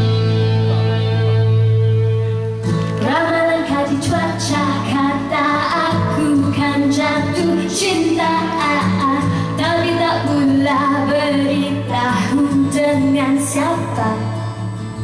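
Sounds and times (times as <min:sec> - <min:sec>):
musical accompaniment through speakers: 0:00.0 - 0:15.0
woman singing into microphone: 0:03.0 - 0:15.0.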